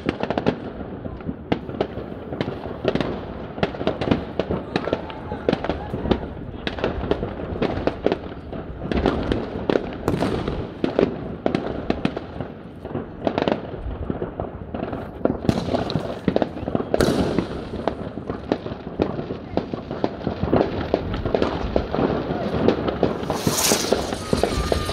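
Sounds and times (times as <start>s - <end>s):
fireworks bangs and pops: 0.0s - 24.9s
fireworks hissing crackle: 4.9s - 24.9s.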